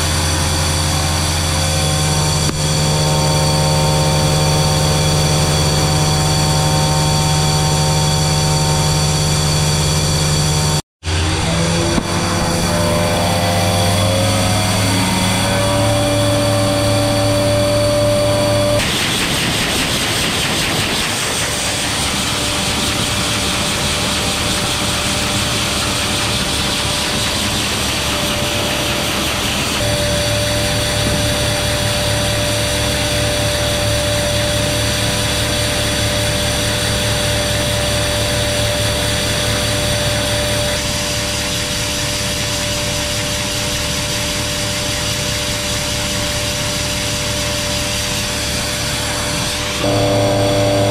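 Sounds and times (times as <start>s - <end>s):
grain vacuum hum and whine: 0.0s - 50.9s.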